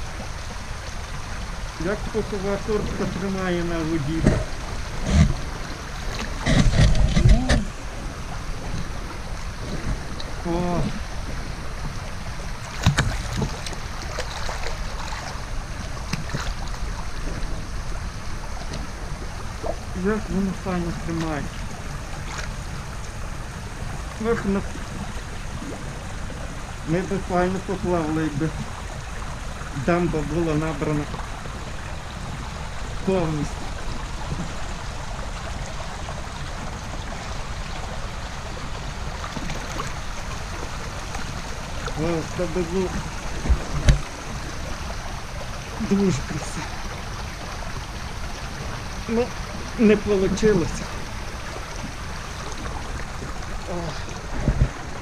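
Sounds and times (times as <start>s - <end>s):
water sloshing and splashing: 0.0s - 55.0s.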